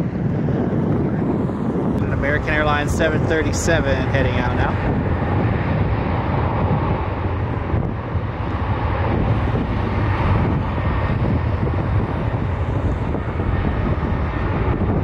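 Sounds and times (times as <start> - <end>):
jet engines rushing: 0.0 - 15.0
wind buffeting microphone: 0.0 - 15.0.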